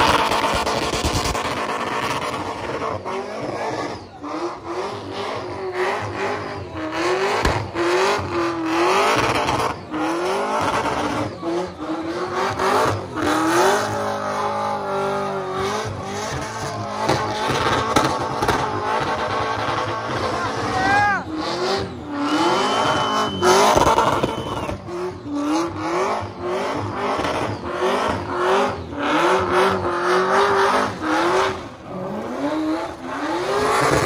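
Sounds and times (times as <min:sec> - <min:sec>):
car engine revving hard: 0:00.0 - 0:34.0.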